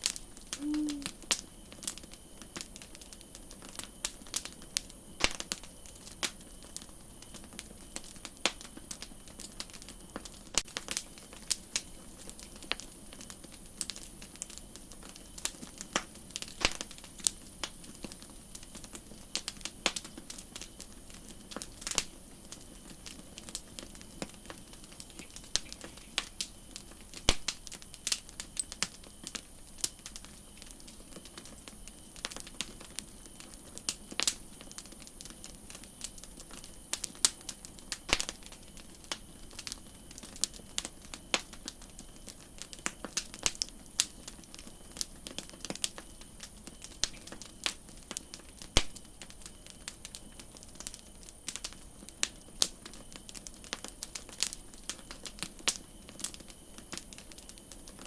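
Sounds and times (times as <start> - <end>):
campfire crackling: 0.0 - 58.0
hiss of burning fire: 0.0 - 58.0.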